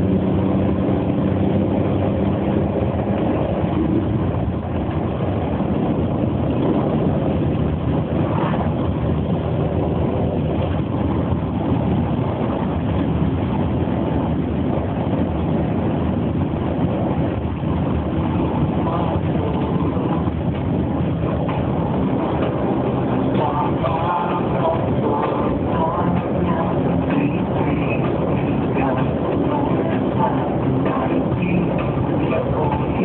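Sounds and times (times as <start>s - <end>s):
diesel engine droning: 0.0s - 33.0s
road noise: 0.0s - 33.0s.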